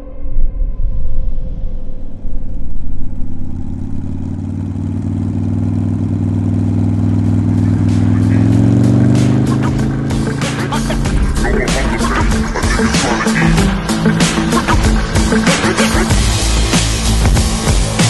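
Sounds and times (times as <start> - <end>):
engine droning: 1.5 - 18.0.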